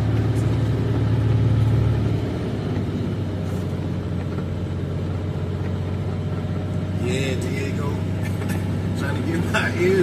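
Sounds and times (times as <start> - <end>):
diesel truck engine with engine brake: 0.0 - 10.0.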